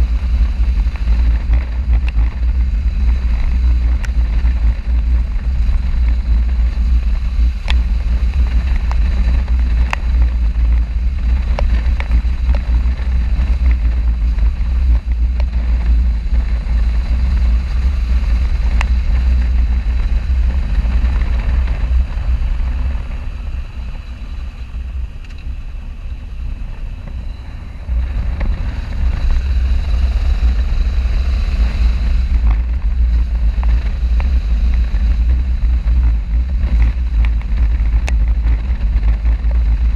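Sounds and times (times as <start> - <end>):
motorcycle wind and road noise: 0.0 - 39.9.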